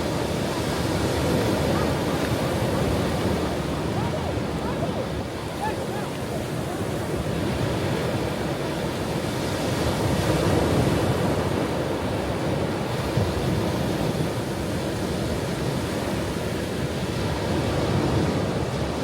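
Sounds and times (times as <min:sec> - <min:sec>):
ocean waves washing onto shore: 0:00.0 - 0:19.0.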